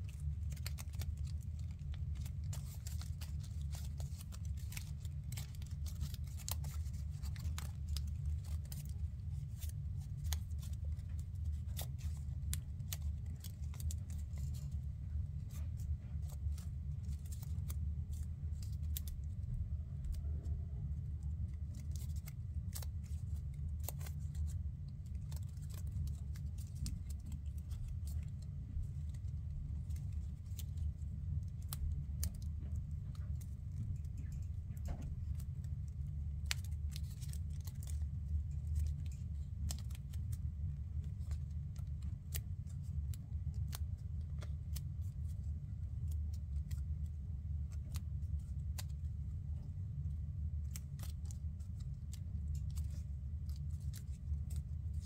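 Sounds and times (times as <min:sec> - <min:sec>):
paper crinkling: 0:00.0 - 0:55.0
steady low rumble: 0:00.0 - 0:55.0.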